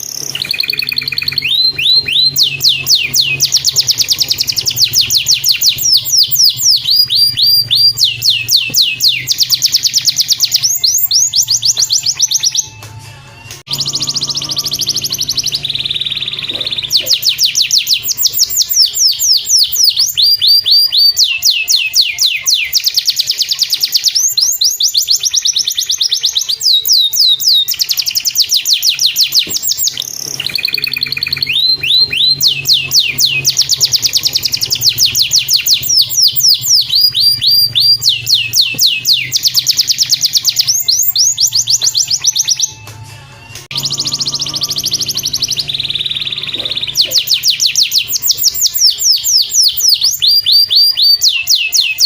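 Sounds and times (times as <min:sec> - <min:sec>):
canary singing fast trills: 0:00.0 - 0:52.0.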